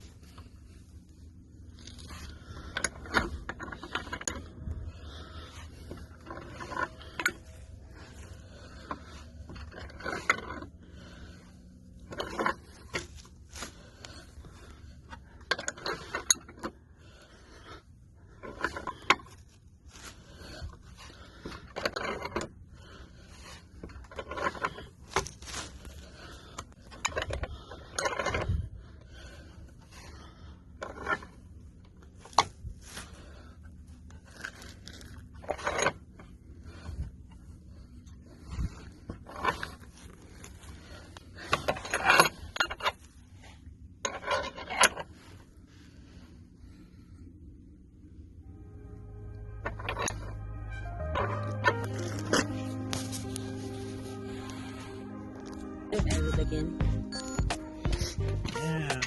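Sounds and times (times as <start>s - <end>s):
hardware scraping and rattling: 0.0s - 47.2s, 49.6s - 50.4s.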